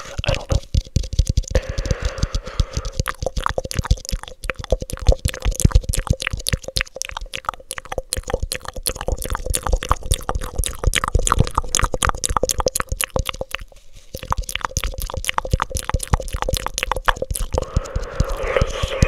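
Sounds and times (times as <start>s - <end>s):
tongue clicks and lip smacks: 0.0s - 19.0s.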